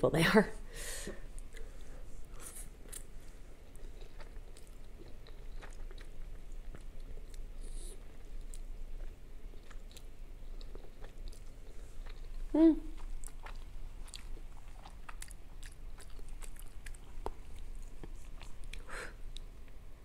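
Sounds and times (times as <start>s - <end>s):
person chewing and slurping noodles: 1.4s - 19.4s.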